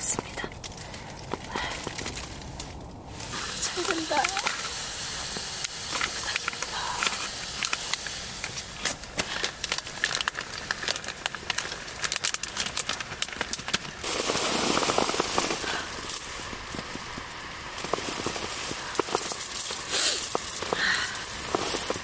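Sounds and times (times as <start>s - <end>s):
plastic packaging rustling: 0.0s - 22.0s
steam hissing with crackles: 0.0s - 22.0s.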